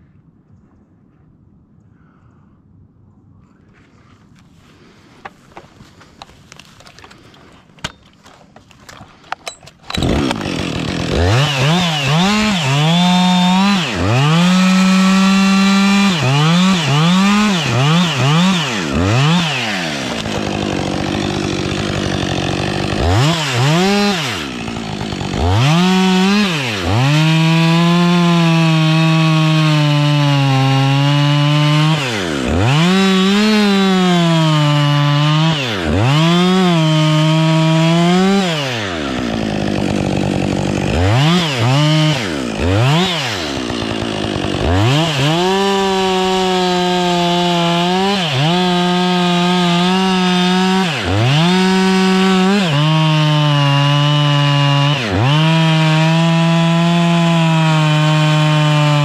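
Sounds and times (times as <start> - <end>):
chainsaw revving and cutting wood: 9.2 - 59.0.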